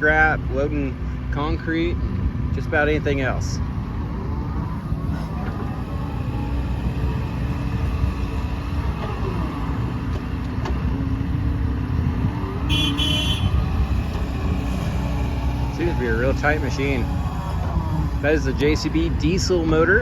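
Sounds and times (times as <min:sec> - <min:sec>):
excavator diesel engine rumble: 0:00.0 - 0:20.0
hydraulic whine: 0:00.0 - 0:20.0
high squeal: 0:03.6 - 0:20.0.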